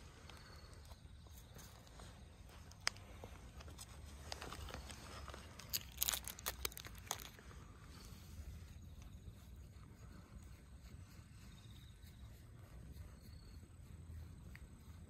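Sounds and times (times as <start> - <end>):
crackling and crinkling: 0.0 - 15.0
low outdoor rumble: 0.0 - 15.0.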